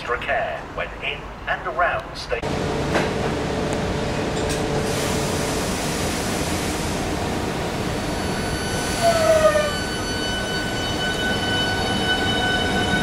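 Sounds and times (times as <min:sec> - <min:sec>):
train equipment hum and hiss: 0:00.0 - 0:11.3.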